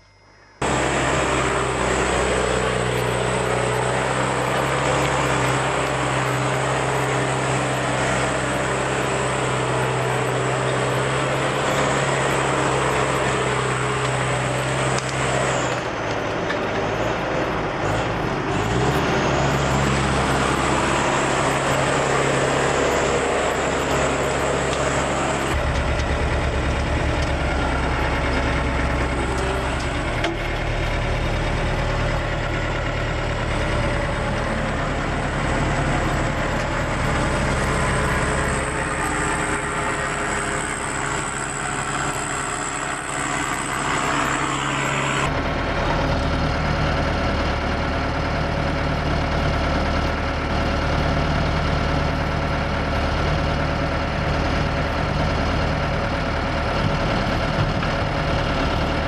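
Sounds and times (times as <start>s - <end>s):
diesel engine running: 0.5s - 59.0s.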